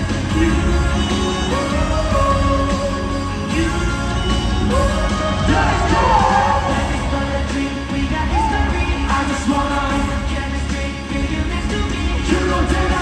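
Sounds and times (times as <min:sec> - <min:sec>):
man singing: 0:00.0 - 0:13.0
pop backing track with heavy bass: 0:00.0 - 0:13.0.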